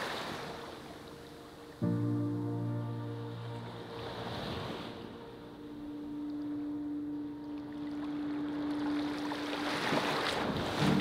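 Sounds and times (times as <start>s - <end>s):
ocean waves washing in: 0.0s - 11.0s
soft background music note: 0.0s - 11.0s.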